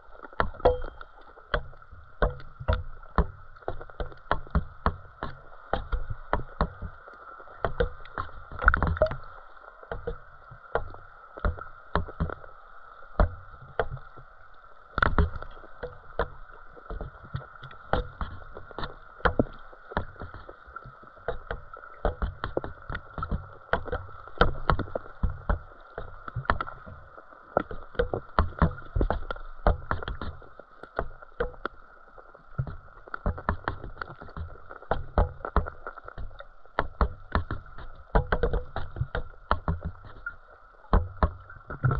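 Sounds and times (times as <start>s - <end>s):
sharp underwater clicks and knocks: 0.0s - 41.9s.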